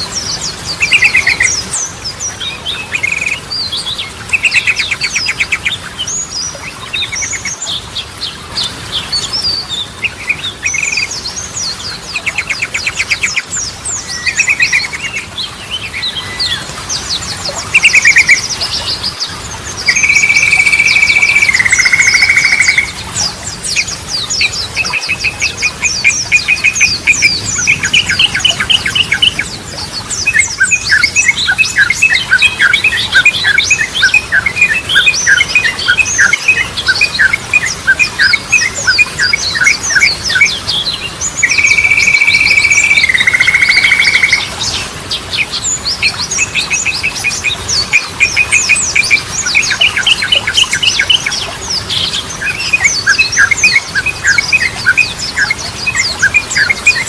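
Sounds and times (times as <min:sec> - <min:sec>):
bulbul singing: 0:00.0 - 0:07.5, 0:09.4 - 0:44.8, 0:45.5 - 0:57.0.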